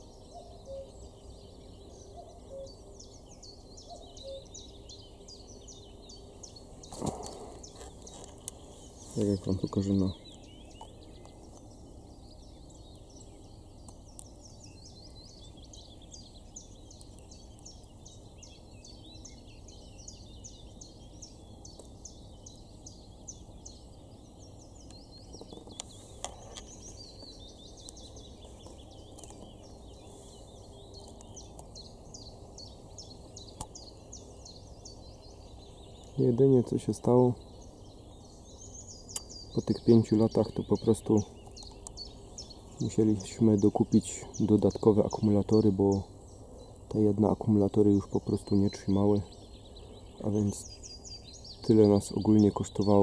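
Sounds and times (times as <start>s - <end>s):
faint outdoor background: 0.0s - 53.0s
small birds chirping: 0.0s - 53.0s.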